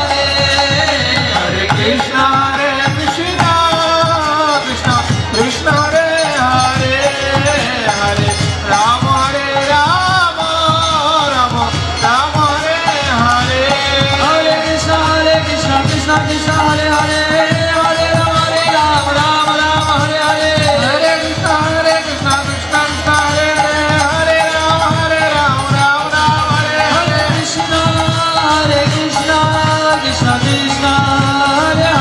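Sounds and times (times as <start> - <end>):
hand drums beating: 0.0 - 32.0
voices singing: 0.0 - 32.0.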